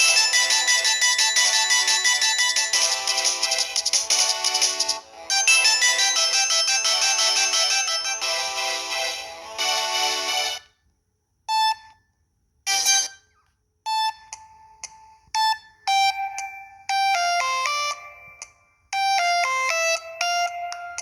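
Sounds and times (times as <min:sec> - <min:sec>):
phone ringtone melody: 0:00.0 - 0:10.6, 0:12.7 - 0:13.3, 0:15.4 - 0:21.0.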